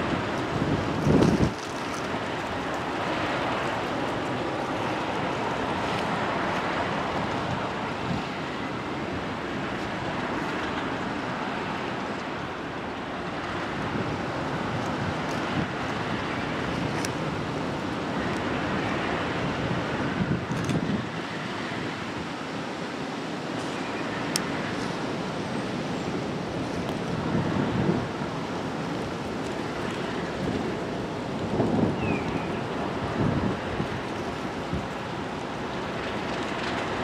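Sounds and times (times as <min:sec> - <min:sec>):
wind noise on microphone: 0:00.0 - 0:37.0.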